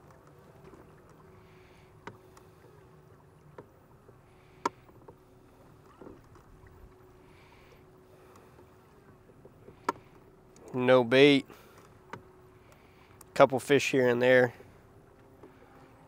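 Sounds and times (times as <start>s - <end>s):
boat engine hum: 0.0s - 16.0s.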